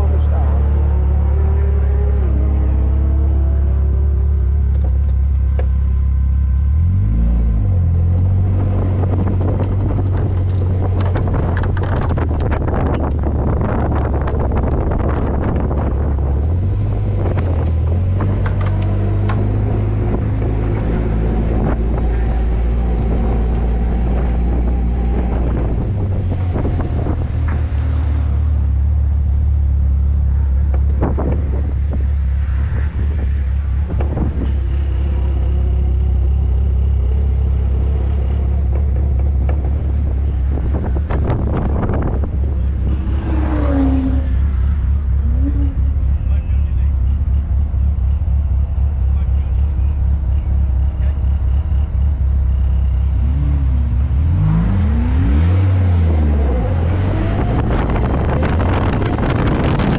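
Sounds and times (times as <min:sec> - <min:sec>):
car engine running at low revs: 0:00.0 - 0:59.9.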